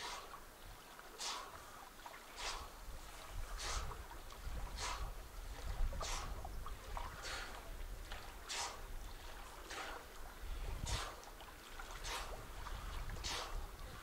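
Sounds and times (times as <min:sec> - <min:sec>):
swimming strokes splashing: 0:00.0 - 0:14.0.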